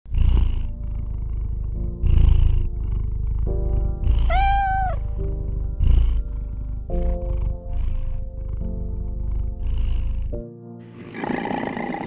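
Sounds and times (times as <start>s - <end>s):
kitten purring: 0.1s - 10.4s
soft background music: 0.1s - 12.0s.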